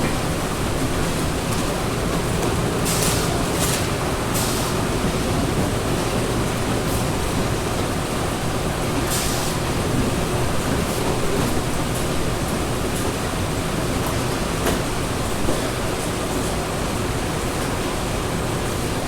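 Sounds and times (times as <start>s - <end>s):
printing press roar: 0.0s - 19.0s.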